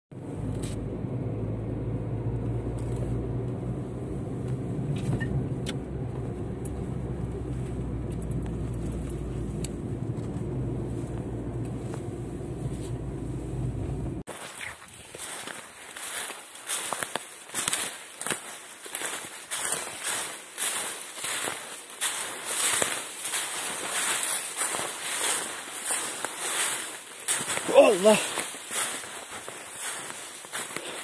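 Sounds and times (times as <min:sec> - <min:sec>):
car engine and tyre hum: 0:00.2 - 0:31.0.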